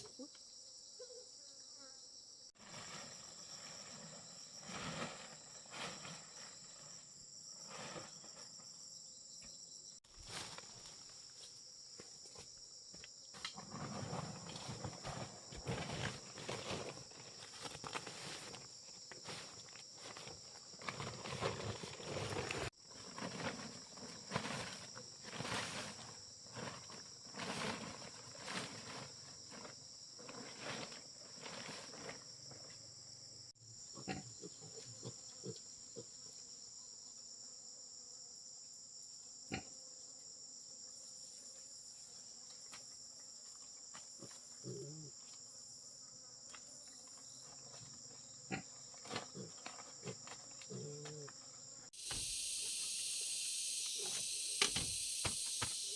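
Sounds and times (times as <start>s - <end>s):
insects chirring: 0.0s - 55.9s.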